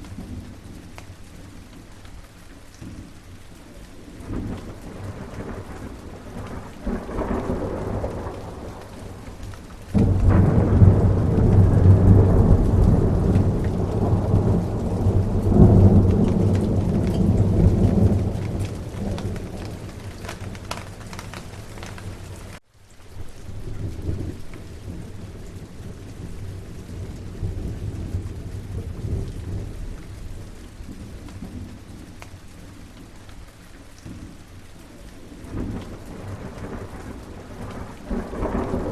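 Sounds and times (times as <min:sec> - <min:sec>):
steady rain: 0:00.0 - 0:38.9
thunder rumbling: 0:04.0 - 0:22.6, 0:23.2 - 0:32.2, 0:35.2 - 0:38.9.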